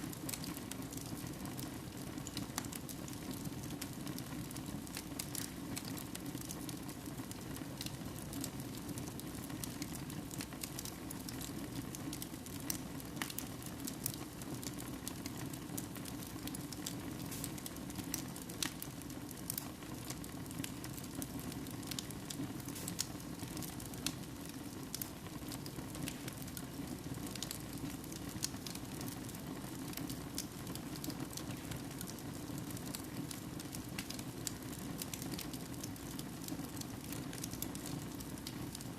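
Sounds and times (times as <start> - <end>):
logs crackling and popping: 0.1 - 38.9.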